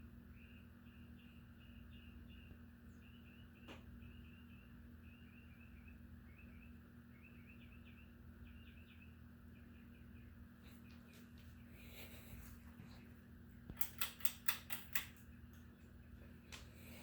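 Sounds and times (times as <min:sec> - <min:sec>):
ceiling fan hum: 0:00.0 - 0:17.0.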